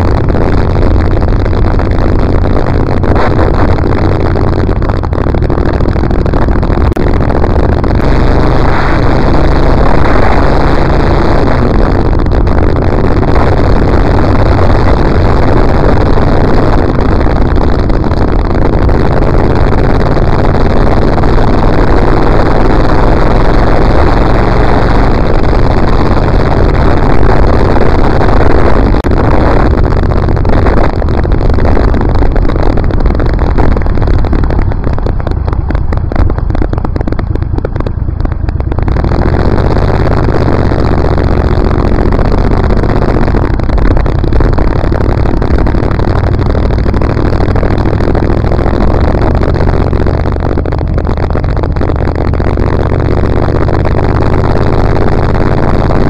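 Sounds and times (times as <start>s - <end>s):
motorcycle engine and road rumble: 0.0s - 56.0s
wind rush on microphone: 0.0s - 56.0s.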